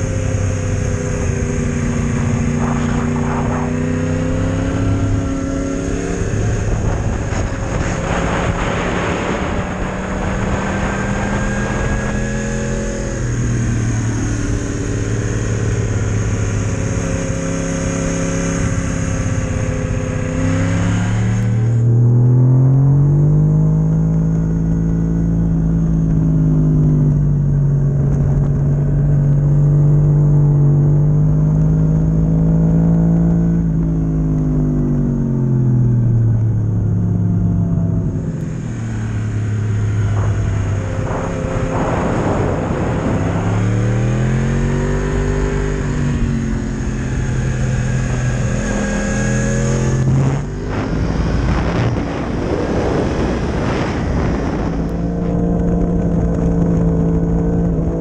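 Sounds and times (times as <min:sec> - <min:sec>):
wind rushing over microphone: 0:00.0 - 0:34.0, 0:34.6 - 0:58.0
motorcycle engine revving: 0:00.0 - 0:58.0.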